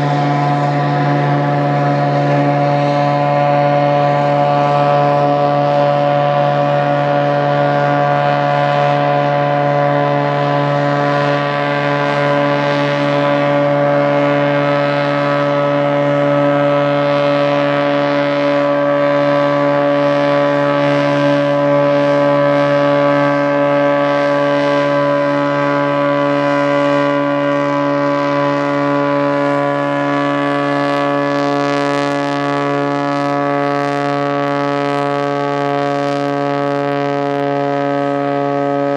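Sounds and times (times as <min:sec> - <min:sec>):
floatplane engine droning: 0:00.0 - 0:38.9.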